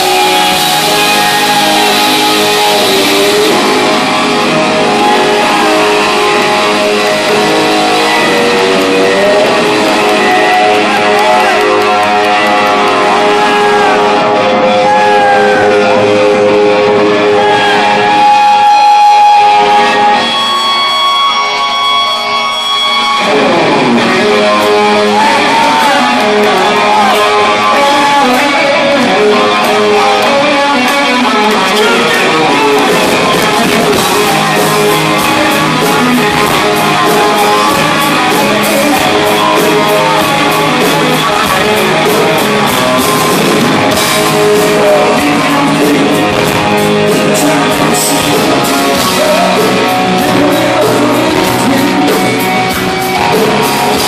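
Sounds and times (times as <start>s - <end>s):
distorted electric guitar: 0.0s - 54.0s
drums: 0.0s - 54.0s
rock band playing loud: 0.0s - 54.0s.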